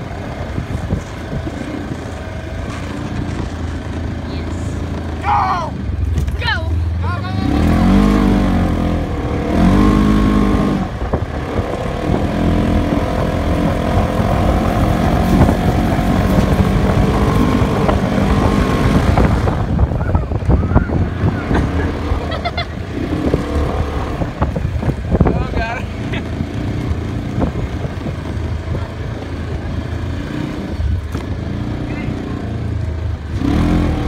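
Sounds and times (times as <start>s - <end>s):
vehicle engine running under load: 0.0s - 34.0s.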